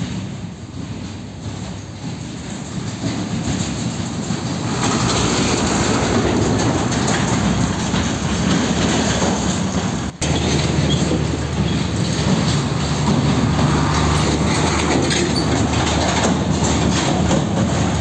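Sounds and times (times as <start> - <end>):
truck diesel engine passing: 0.0 - 18.0
tyre and trailer noise: 0.0 - 18.0.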